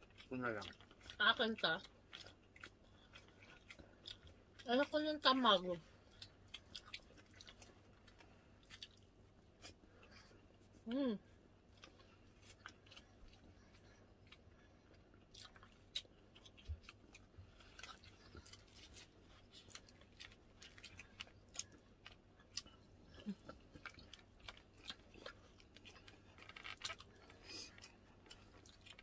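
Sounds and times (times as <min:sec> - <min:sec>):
crunchy chewing clicks: 0:00.0 - 0:05.4, 0:06.0 - 0:10.2, 0:11.7 - 0:29.0
food being chewed: 0:00.0 - 0:29.0.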